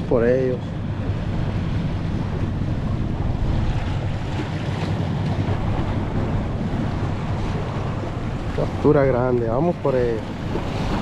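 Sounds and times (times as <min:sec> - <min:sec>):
waves breaking against rocks: 0:00.0 - 0:11.0
wind buffeting microphone: 0:00.0 - 0:11.0.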